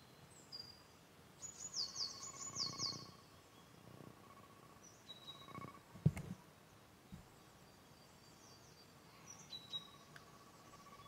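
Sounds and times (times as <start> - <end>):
faint steady tone: 0.0 - 11.0
songbird chirping: 0.0 - 11.0.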